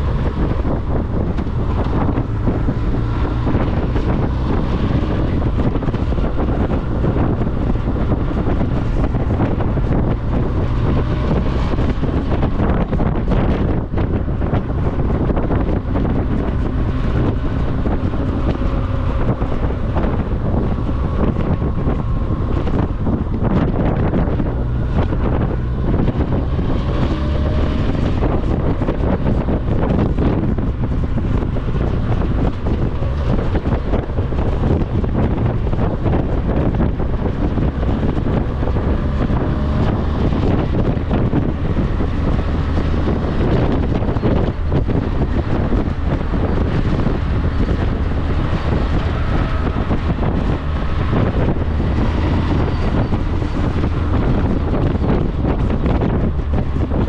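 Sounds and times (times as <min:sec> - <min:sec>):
wind buffeting the microphone: 0:00.0 - 0:57.0.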